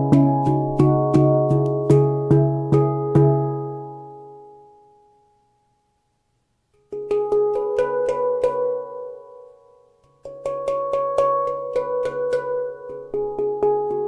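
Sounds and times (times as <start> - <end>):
handpan notes ringing: 0.0 - 5.0, 6.9 - 14.0.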